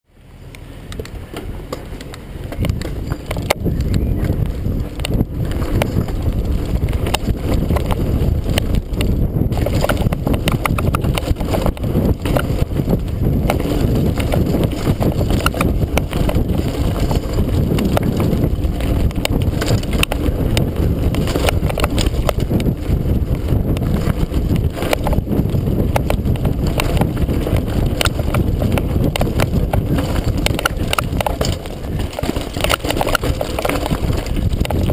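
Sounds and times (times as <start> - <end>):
tyres rumbling on dirt: 0.1 - 34.9
bike rattling over bumps: 0.8 - 34.9
wind on microphone: 2.3 - 34.9.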